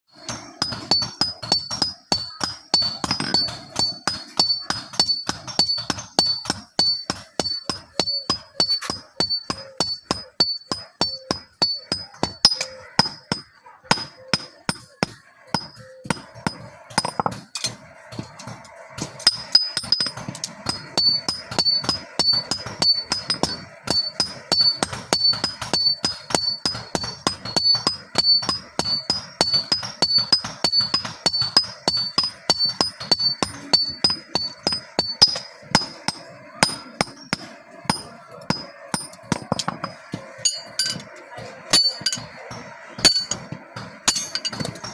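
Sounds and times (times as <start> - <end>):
hammer striking metal on anvil: 0.2 - 41.1, 41.7 - 44.9.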